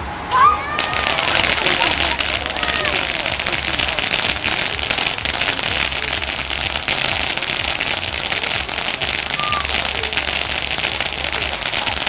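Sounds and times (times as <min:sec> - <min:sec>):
firework fountain crackling: 0:00.4 - 0:12.0.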